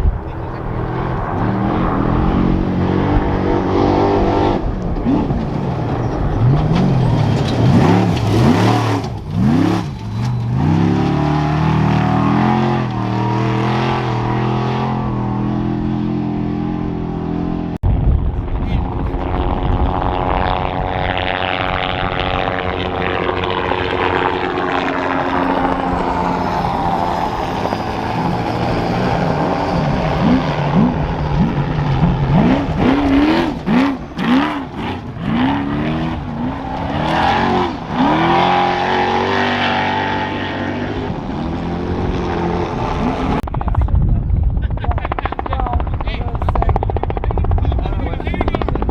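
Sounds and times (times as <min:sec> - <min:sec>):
truck engine revving: 0:00.0 - 0:43.5.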